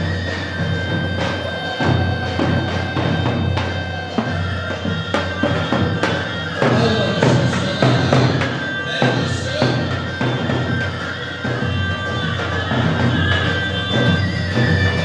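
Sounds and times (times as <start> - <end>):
live band instrumental music: 0.0 - 15.0
steady drum beat: 0.0 - 15.0.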